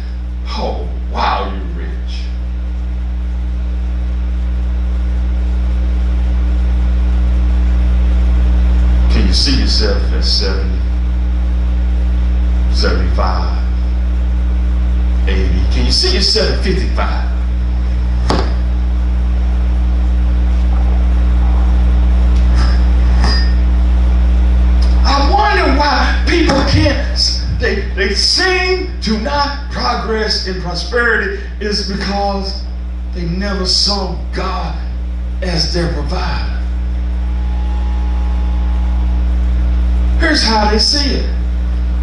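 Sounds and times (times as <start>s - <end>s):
loud low hum: 0.0s - 42.0s.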